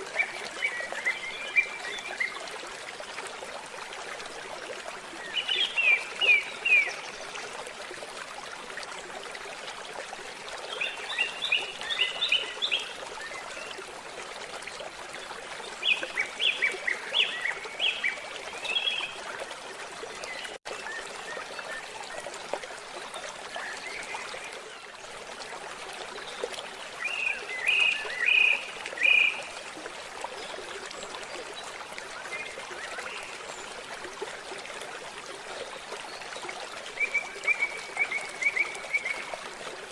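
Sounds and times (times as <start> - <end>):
forest stream babbling: 0.0 - 39.9.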